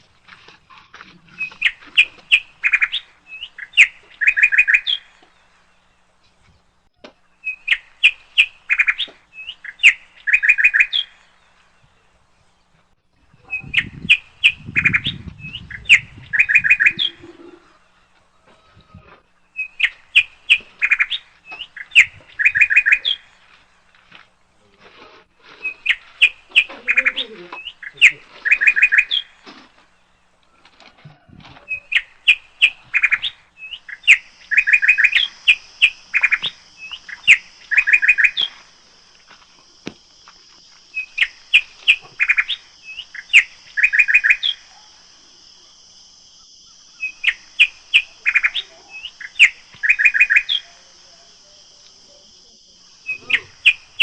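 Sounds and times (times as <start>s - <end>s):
bird chirping song: 0.0s - 24.6s, 25.5s - 40.0s, 40.6s - 54.0s.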